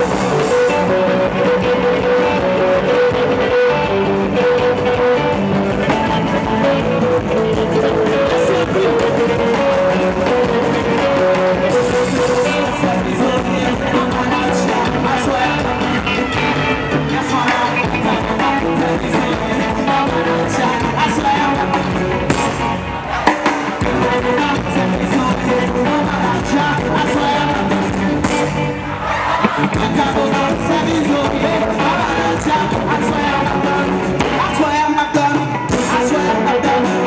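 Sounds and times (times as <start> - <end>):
live band music: 0.0 - 37.0.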